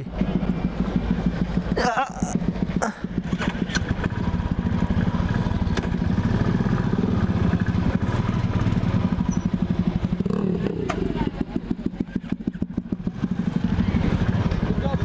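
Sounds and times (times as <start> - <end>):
motorcycle engine thumping: 0.0 - 6.4, 9.0 - 15.0.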